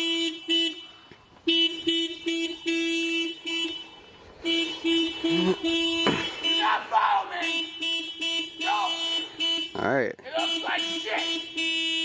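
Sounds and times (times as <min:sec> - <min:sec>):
car horn alarm beeps: 0:00.0 - 0:12.0.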